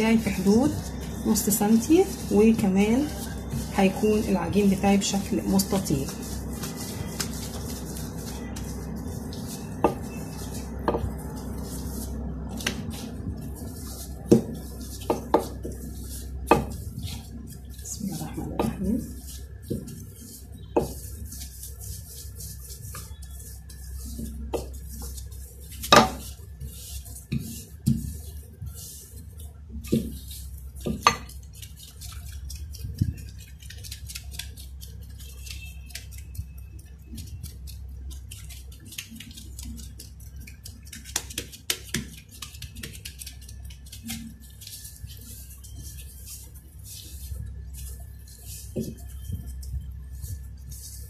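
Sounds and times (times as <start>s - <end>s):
low steady hum: 0.0s - 51.0s
rolling pin working dough: 0.0s - 51.0s.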